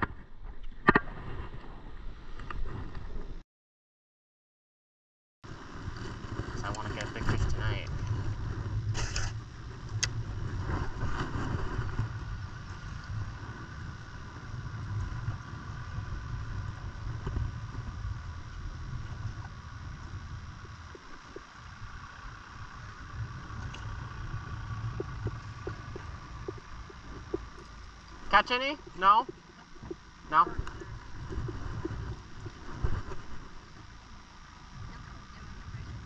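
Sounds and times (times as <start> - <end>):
wind rumbling on microphone: 0.0 - 3.4, 5.5 - 36.0
moving harbour water: 5.5 - 36.0.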